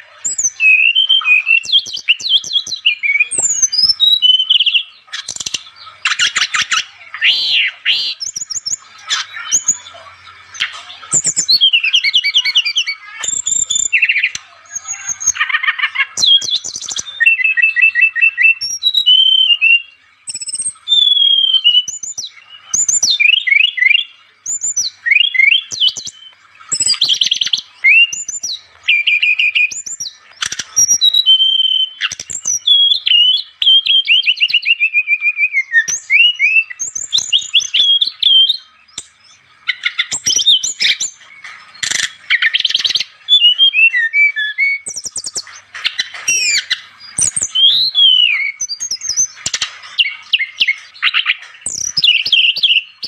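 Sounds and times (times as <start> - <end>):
bird singing rapid trills: 0.0 - 53.0.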